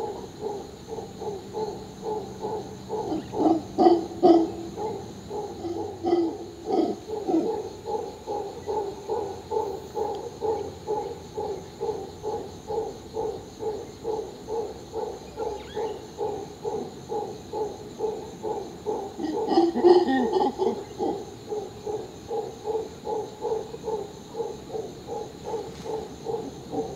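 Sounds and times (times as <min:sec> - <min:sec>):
howler monkeys grunting: 0:00.0 - 0:26.9.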